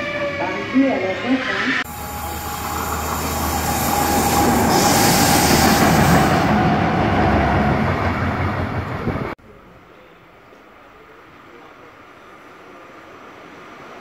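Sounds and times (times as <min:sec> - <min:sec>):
diesel locomotive engine drone: 0:00.0 - 0:14.0
wheel and rail noise: 0:00.0 - 0:14.0.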